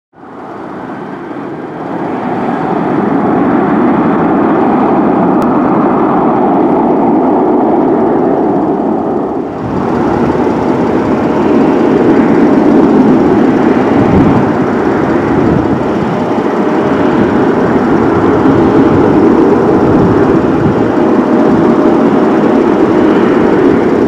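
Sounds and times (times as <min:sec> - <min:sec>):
jet engines running: 0:00.2 - 0:24.0.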